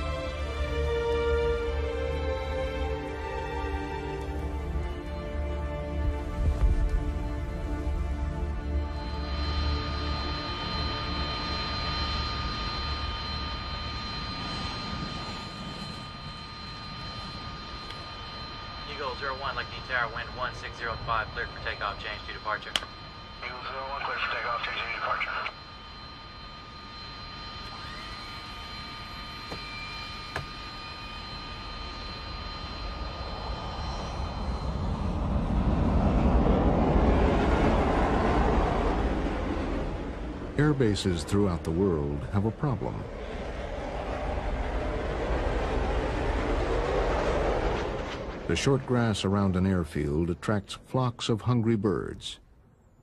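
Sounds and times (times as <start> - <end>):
jet engine whining: 0.0 - 53.0.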